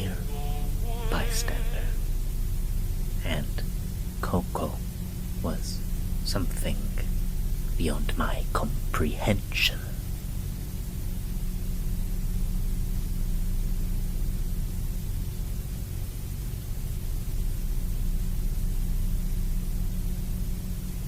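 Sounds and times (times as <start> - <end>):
constant hiss: 0.0 - 21.0
low droning hum: 0.0 - 21.0.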